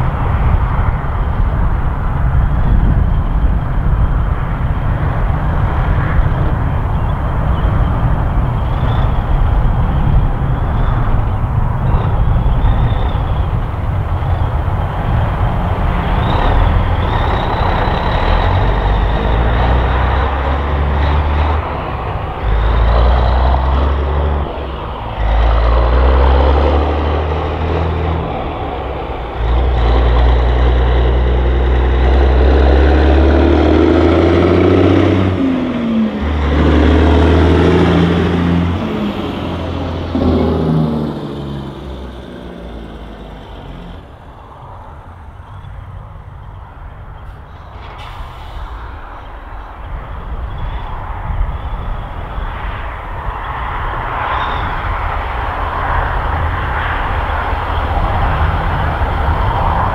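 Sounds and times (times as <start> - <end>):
truck engine shifting gears: 0.0 - 52.5, 53.4 - 59.9.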